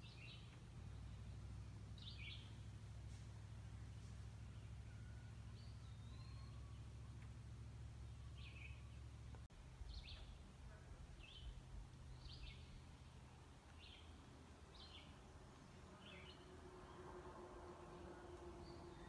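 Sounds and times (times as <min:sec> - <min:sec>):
bird chirping: 0:00.0 - 0:02.6, 0:03.7 - 0:07.2, 0:07.9 - 0:10.5, 0:11.2 - 0:19.0
faint low rumble: 0:00.0 - 0:19.0.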